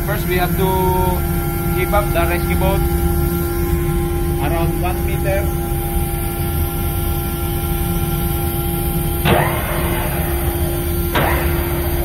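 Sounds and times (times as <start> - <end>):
ship machinery humming: 0.0 - 12.0.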